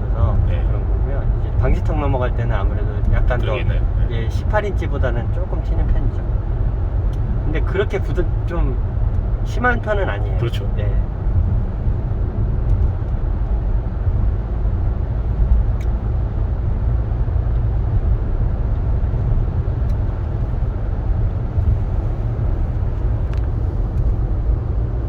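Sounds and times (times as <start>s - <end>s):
road and tyre rumble: 0.0s - 25.0s.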